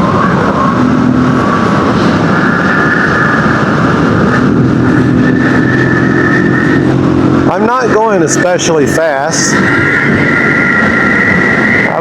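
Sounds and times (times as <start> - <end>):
dirt bike engine cruising: 0.0 - 12.0
wind noise on helmet: 0.0 - 12.0.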